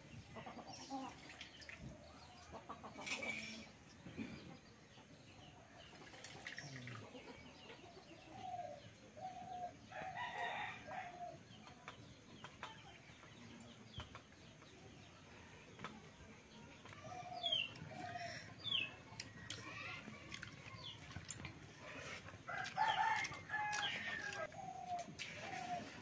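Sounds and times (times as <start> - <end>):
chickens clucking faintly: 0.0 - 26.0.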